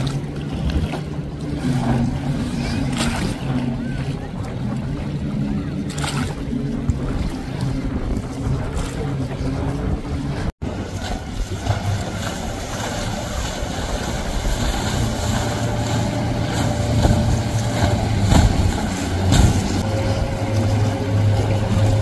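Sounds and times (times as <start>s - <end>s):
outboard motor drone: 0.0s - 22.0s
water wash and spray on hull: 0.0s - 22.0s.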